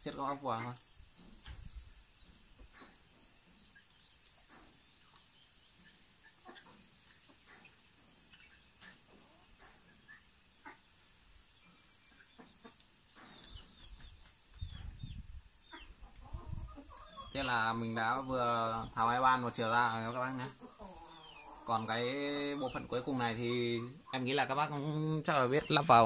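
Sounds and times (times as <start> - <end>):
faint bird chirps and trills: 0.0 - 26.0.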